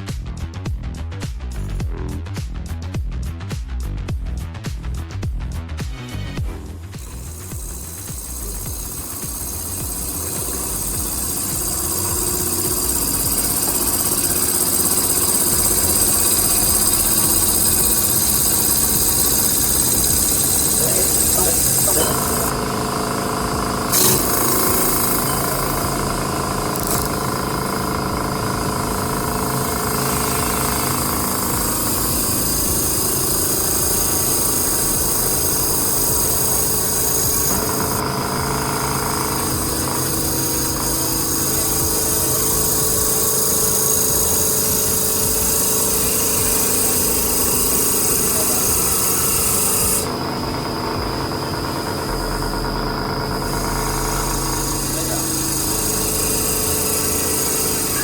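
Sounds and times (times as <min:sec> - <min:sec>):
wood lathe whining and cutting: 0:06.7 - 0:58.0.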